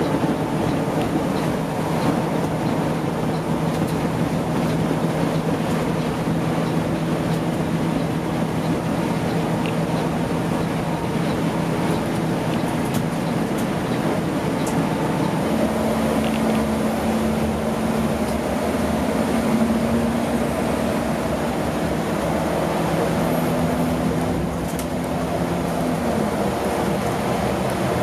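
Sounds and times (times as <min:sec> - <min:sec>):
coach engine drone: 0:00.0 - 0:28.0
tyre and road rumble: 0:00.0 - 0:28.0.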